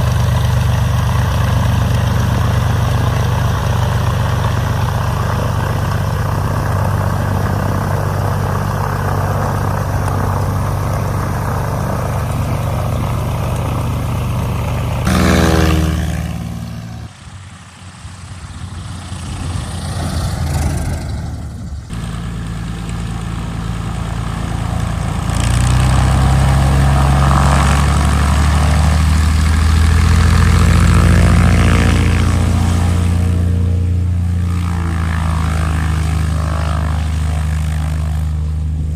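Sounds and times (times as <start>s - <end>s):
airplane engine and propeller: 0.0s - 38.9s.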